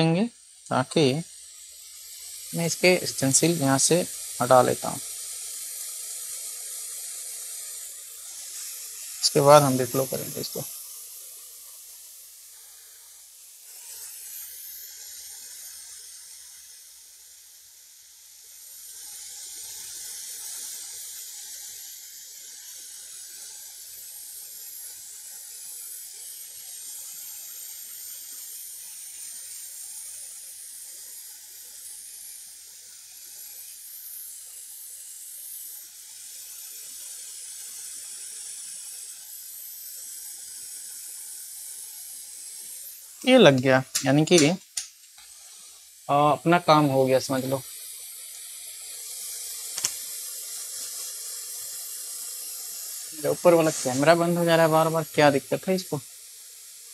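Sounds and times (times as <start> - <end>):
hot air blower hissing: 0.0 - 56.9.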